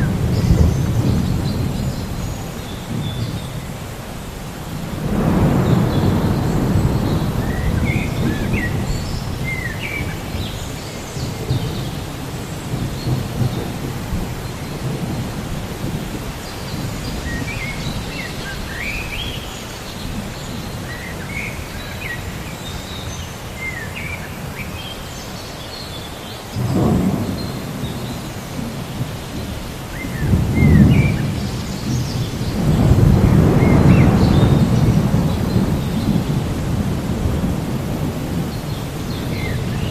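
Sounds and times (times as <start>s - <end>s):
low rolling thunder: 0.0s - 19.4s, 26.6s - 39.9s
birds chirping: 0.0s - 39.9s
steady rain: 0.0s - 39.9s.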